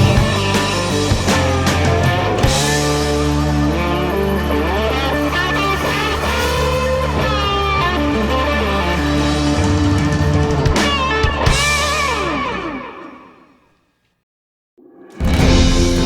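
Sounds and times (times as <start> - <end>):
electric guitar with sliding notes: 0.0 - 13.6, 15.2 - 16.0.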